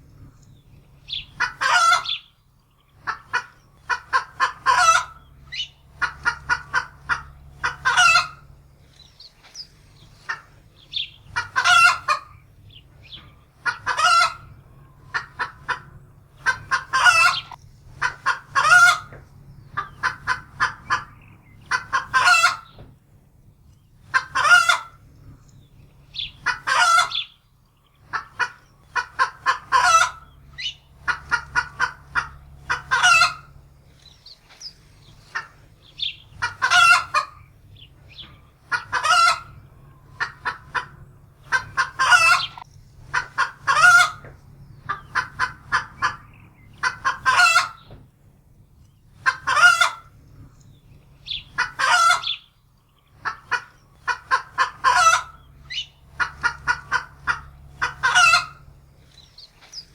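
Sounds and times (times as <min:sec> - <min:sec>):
hen cackling: 0:01.0 - 0:22.8, 0:24.0 - 0:25.1, 0:26.0 - 0:27.4, 0:28.0 - 0:48.0, 0:49.0 - 0:59.9.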